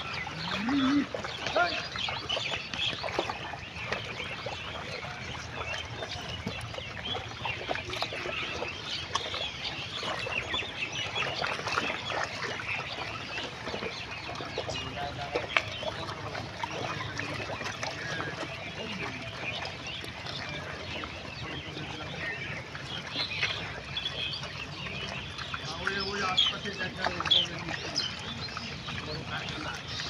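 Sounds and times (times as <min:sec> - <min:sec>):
pigs chewing and splashing: 0:00.0 - 0:30.0.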